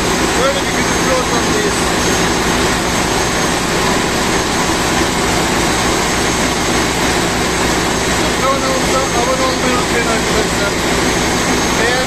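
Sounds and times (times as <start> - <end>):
engine room machinery din: 0.0 - 12.0.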